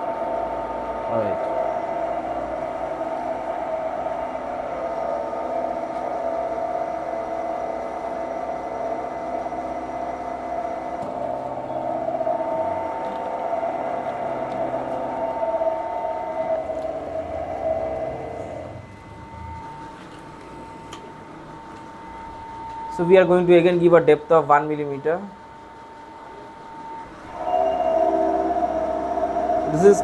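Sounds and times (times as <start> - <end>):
milling machine cutting metal: 0.0 - 21.0, 26.8 - 30.0.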